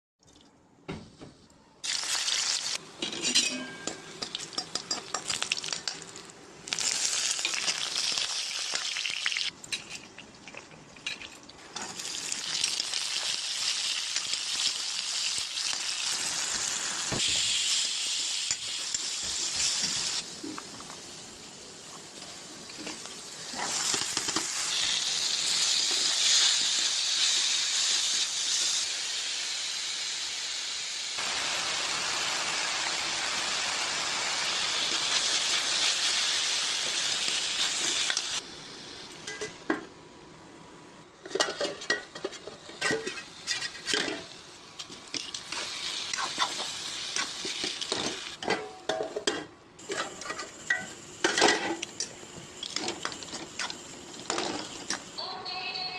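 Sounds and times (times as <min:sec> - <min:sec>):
food sizzling in a pan: 0:01.8 - 0:09.9, 0:11.2 - 0:39.6, 0:41.4 - 0:55.9.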